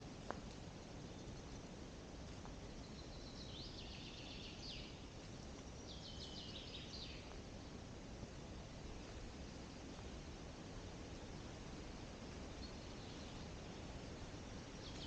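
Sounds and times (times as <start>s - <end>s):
low background hiss: 0.0s - 15.0s
songbird singing: 0.0s - 15.0s.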